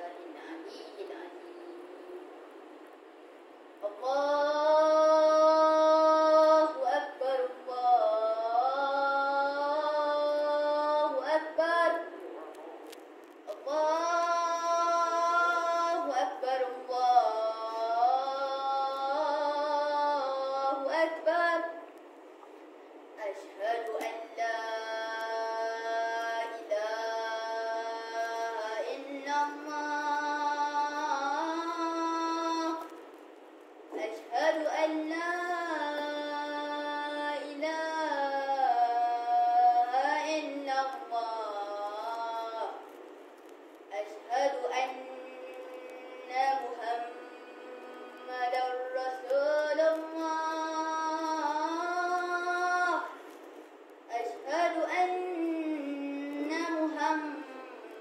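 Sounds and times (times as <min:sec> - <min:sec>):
boy chanting call to prayer: 0:00.0 - 0:02.4, 0:03.7 - 0:21.9, 0:23.2 - 0:33.1, 0:33.9 - 0:43.0, 0:43.8 - 0:58.0.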